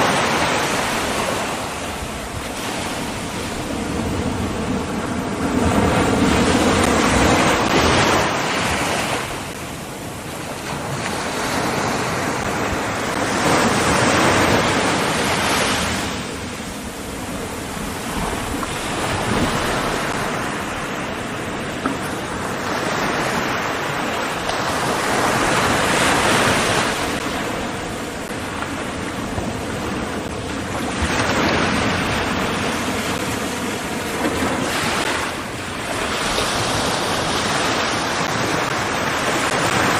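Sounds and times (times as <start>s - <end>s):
waves breaking: 0.0s - 39.9s
wind noise on microphone: 0.0s - 39.9s.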